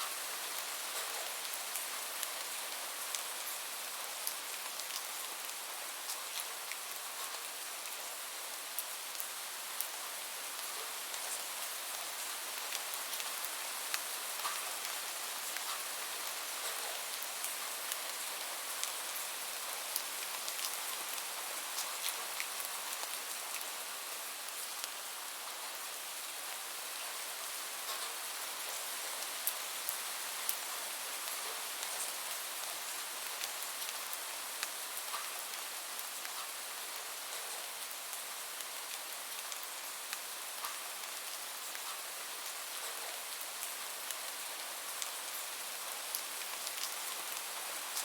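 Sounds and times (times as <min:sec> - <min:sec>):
light rain falling: 0:00.0 - 0:48.0.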